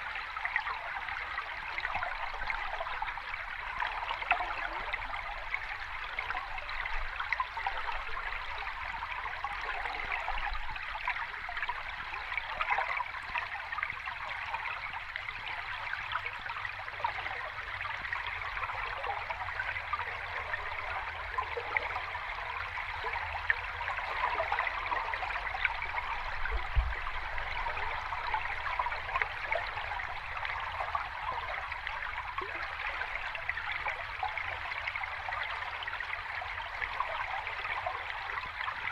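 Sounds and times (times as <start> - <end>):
sea water fizzing and trickling: 0.0 - 38.9.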